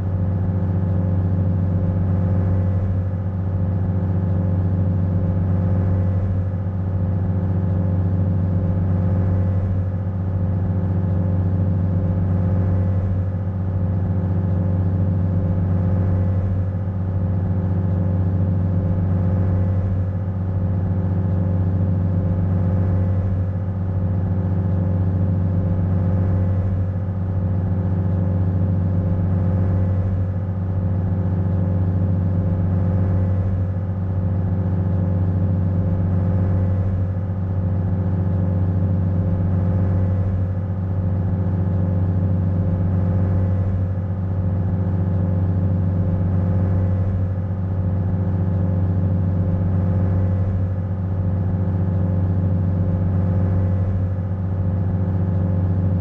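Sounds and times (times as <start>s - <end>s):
ferry engine droning: 0.0s - 56.0s.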